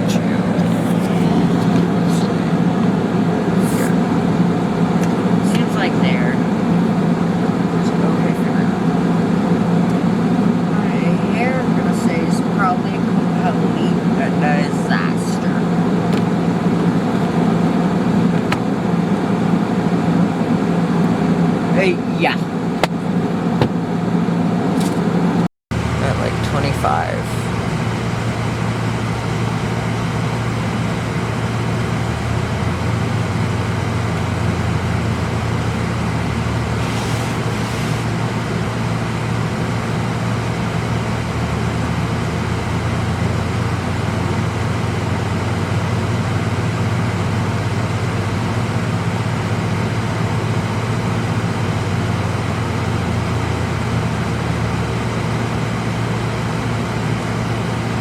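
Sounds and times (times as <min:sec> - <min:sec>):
car engine humming: 0:00.0 - 0:58.0
heater fan blowing air: 0:00.0 - 0:58.0.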